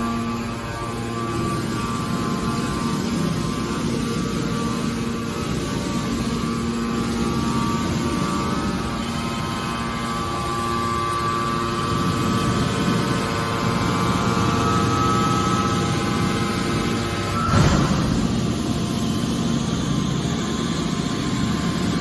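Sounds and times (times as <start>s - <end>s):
baler machinery humming: 0.0s - 22.0s
high machine whine: 0.0s - 22.0s.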